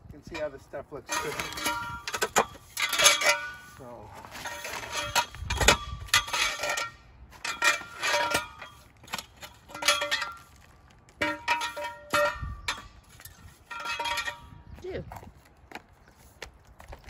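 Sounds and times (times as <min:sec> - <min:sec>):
rebar clanking and ringing: 0:00.3 - 0:14.7.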